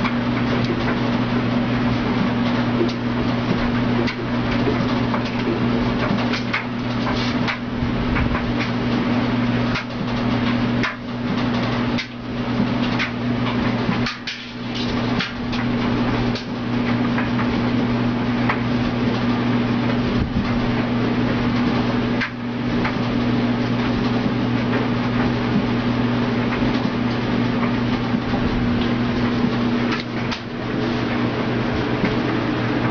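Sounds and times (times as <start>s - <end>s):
washing machine humming: 0.0s - 32.9s.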